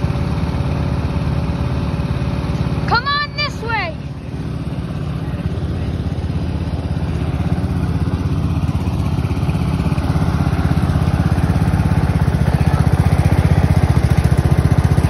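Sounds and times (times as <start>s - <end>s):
riding lawn tractor engine: 0.0s - 15.0s.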